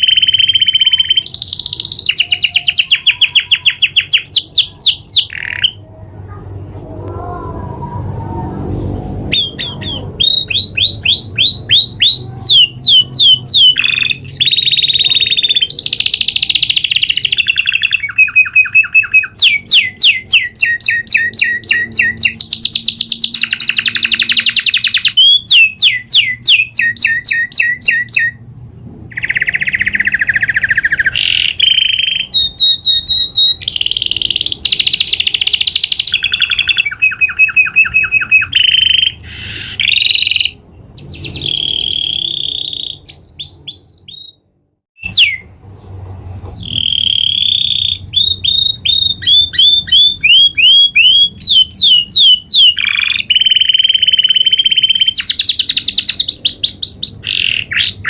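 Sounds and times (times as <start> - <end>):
canary singing trills: 0.0 - 6.6, 8.8 - 28.4, 29.1 - 45.9, 46.6 - 58.0.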